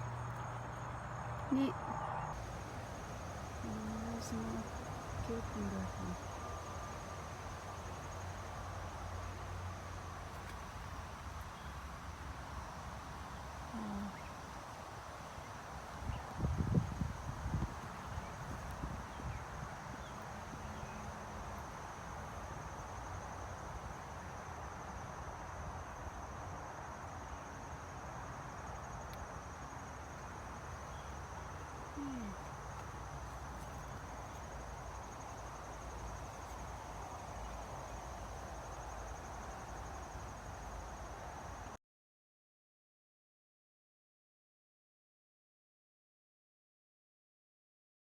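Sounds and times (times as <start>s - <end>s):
background hiss: 0.0s - 41.8s
insects chirring: 0.0s - 41.8s.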